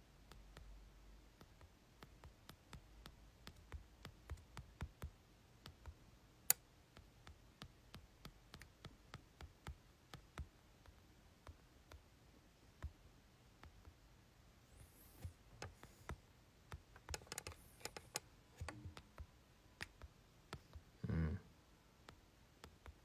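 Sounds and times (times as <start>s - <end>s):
fingers tapping touchscreen: 0.2s - 12.0s, 13.6s - 14.0s, 14.8s - 20.8s, 22.0s - 23.0s.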